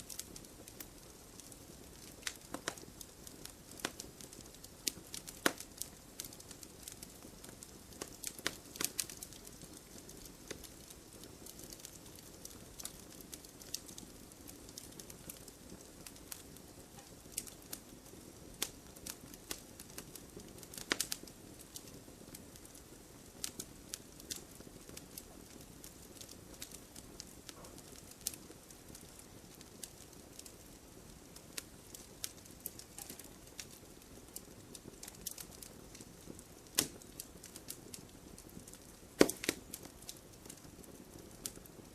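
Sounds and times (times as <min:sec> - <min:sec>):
soft steady fire rush: 0:00.0 - 0:41.9
wood fire crackling and popping: 0:00.0 - 0:41.9.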